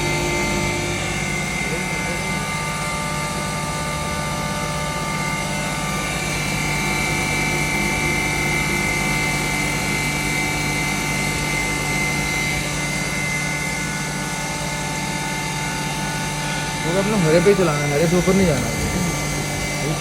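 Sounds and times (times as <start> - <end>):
grinding machine whirring: 0.0 - 20.0.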